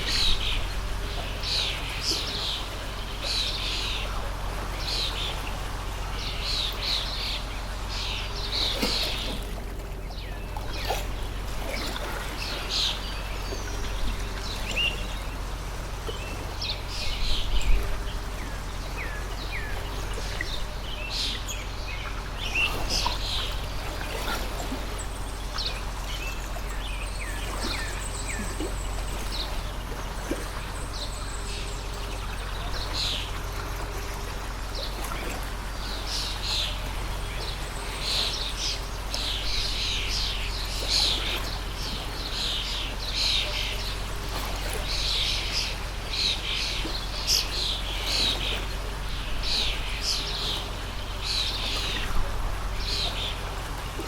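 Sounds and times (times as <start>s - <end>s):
low steady hum: 0.0s - 54.0s
small birds chirping: 0.0s - 54.0s
stream trickling: 0.0s - 54.0s.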